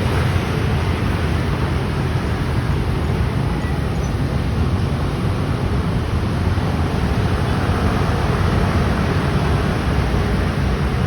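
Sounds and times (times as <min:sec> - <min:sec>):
motor scooters passing in traffic: 0:00.0 - 0:11.0.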